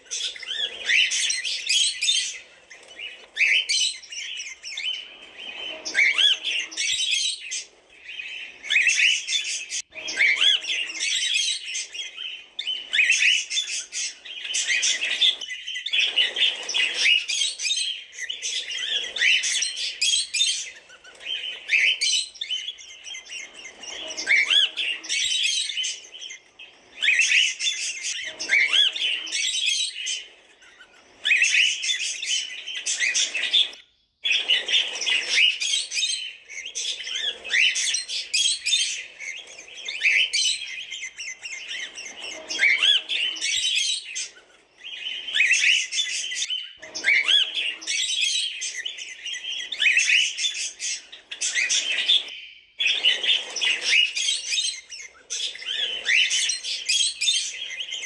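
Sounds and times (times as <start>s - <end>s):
cockatiels chirping and squawking: 0.0s - 58.0s.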